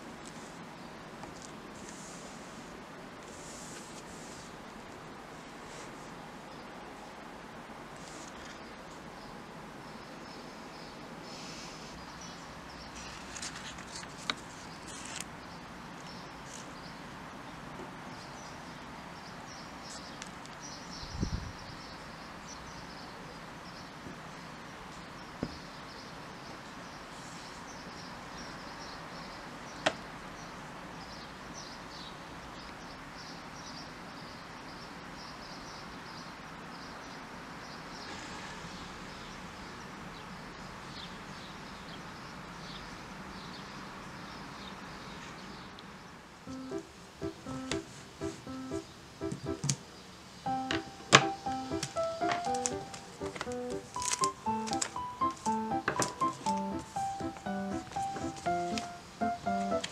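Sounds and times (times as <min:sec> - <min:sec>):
steady background hiss: 0:00.0 - 0:59.9
faint bird chirping: 0:08.0 - 0:59.9.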